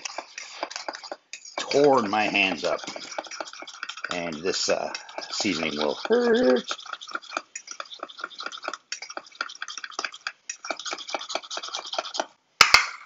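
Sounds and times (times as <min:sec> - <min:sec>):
spoon scraping metal bowl: 0:00.0 - 0:12.3.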